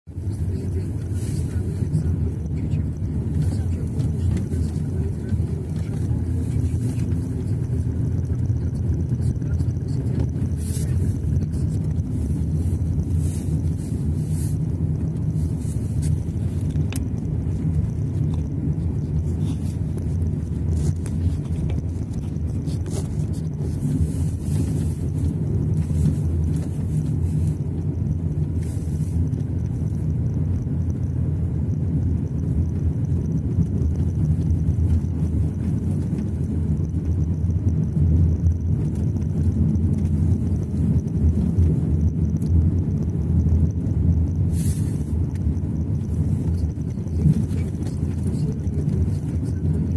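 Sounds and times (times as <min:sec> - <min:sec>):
car engine and tyres rumbling: 0:00.0 - 0:49.9.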